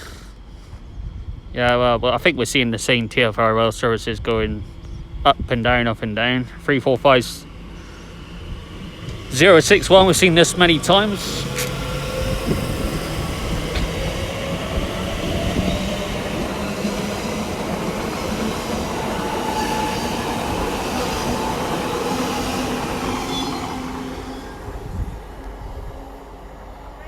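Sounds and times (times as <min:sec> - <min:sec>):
electric train rumbling on rails: 0:00.0 - 0:27.0.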